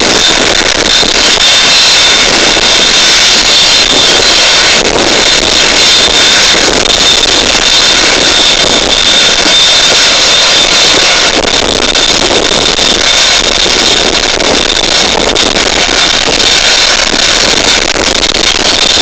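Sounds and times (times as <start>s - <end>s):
helicopter turbine whine: 0.0s - 19.0s.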